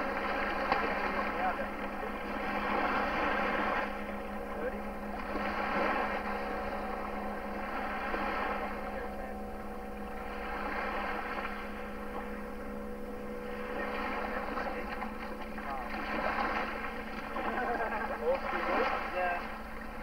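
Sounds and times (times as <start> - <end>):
distant outboard engine droning: 0.0 - 20.0
low electrical hum: 0.0 - 20.0.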